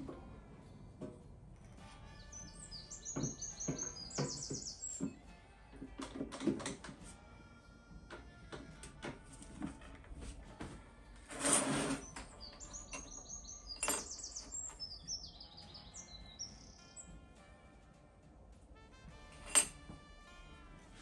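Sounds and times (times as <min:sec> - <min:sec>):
songbird chirping: 0:00.0 - 0:17.2
faint background music: 0:00.0 - 0:21.0.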